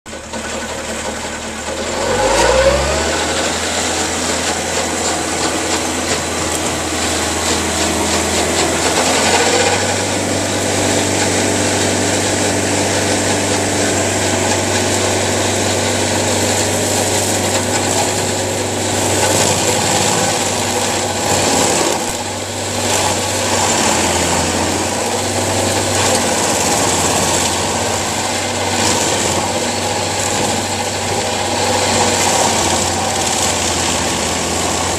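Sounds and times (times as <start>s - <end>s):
engine revving and running: 0.1s - 34.9s.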